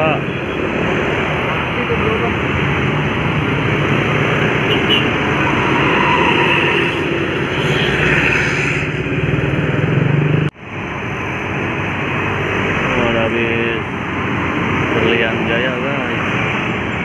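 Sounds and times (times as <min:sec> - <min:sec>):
bus engine passing: 0:00.0 - 0:17.0
road traffic: 0:00.0 - 0:17.0.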